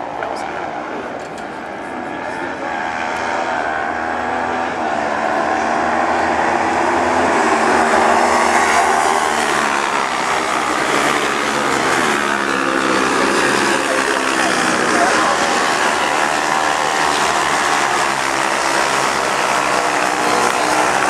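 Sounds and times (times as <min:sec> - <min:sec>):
racing buggy engines revving: 0:00.0 - 0:21.0.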